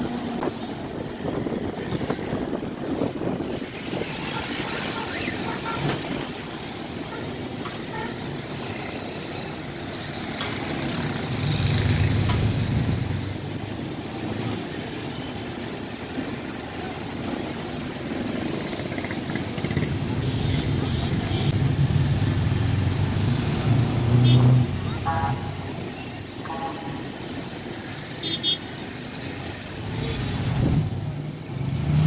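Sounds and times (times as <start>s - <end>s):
street traffic engines: 0.0s - 32.0s
vehicles passing with engine rumble: 0.0s - 32.0s.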